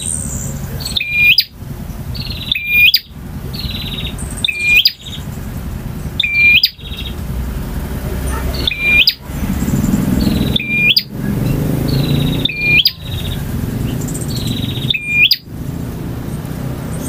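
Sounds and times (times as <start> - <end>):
bird singing buzzy trill: 0.0 - 17.0
low background rumble: 0.0 - 17.0.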